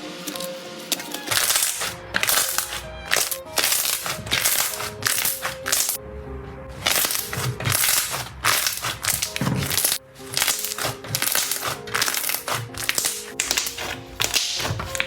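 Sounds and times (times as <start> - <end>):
background music: 0.0 - 15.0
slime crackling and crunching: 0.2 - 6.0, 6.8 - 15.0.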